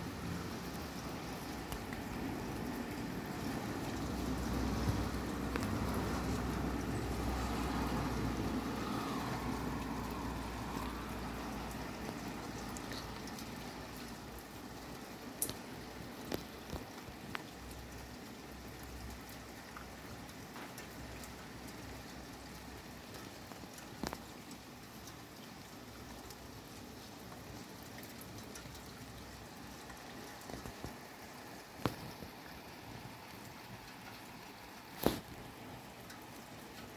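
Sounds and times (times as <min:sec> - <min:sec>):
heavy rain falling: 0:00.0 - 0:36.9
water drops dripping: 0:00.7 - 0:26.4, 0:27.3 - 0:32.2.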